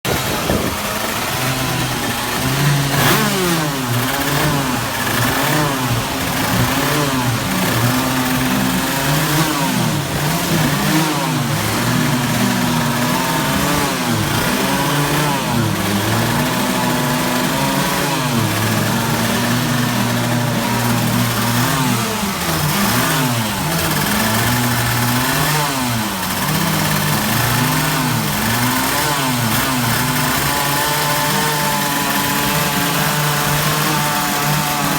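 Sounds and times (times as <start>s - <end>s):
kart engines revving: 0.0s - 34.9s.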